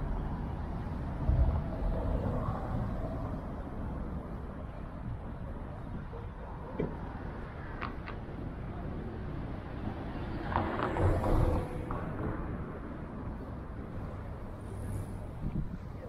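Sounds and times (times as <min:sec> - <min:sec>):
city low rumble: 0:00.0 - 0:16.0.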